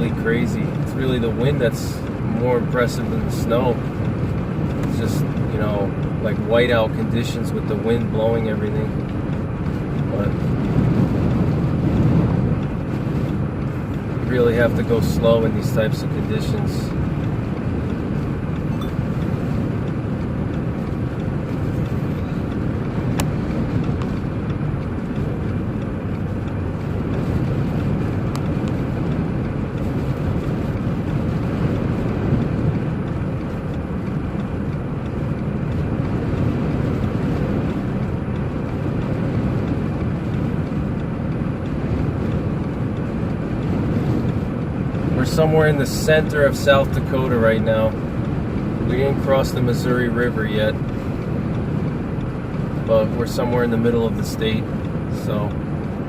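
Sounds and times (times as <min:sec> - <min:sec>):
car driving in snow: 0:00.0 - 0:56.0
wind noise: 0:00.0 - 0:56.0.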